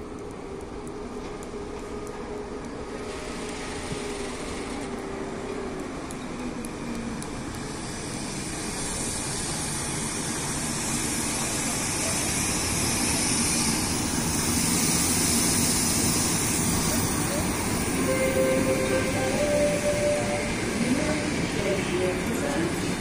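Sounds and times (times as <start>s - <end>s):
electric locomotive passing: 0.0s - 23.0s
wheels hissing on rails: 0.2s - 23.0s.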